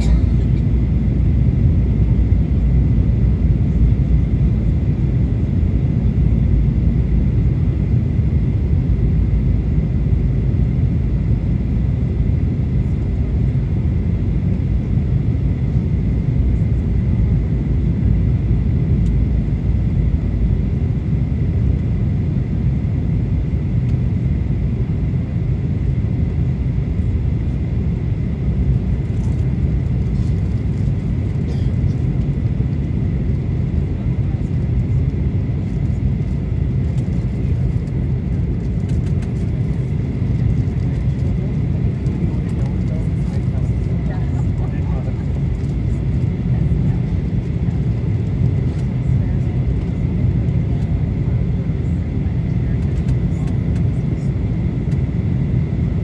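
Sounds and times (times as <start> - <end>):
jet engine cabin rumble: 0.0 - 56.0.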